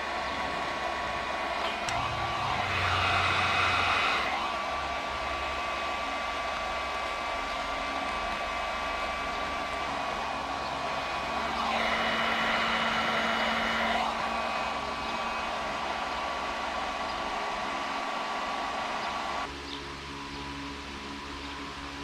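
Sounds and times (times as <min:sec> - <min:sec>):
hot-air blower running: 0:00.0 - 0:19.6.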